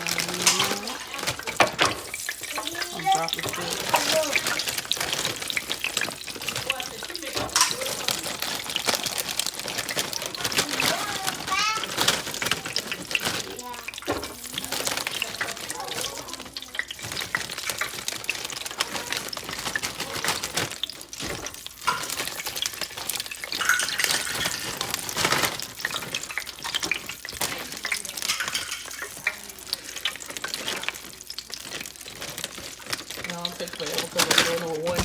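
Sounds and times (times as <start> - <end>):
hot oil sizzling and popping: 0.0 - 35.0.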